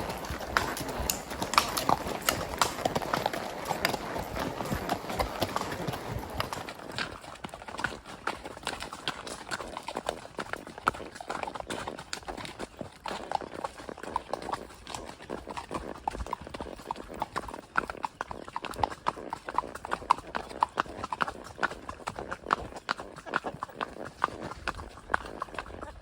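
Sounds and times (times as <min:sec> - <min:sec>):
horse hoofbeats: 0:00.0 - 0:26.0.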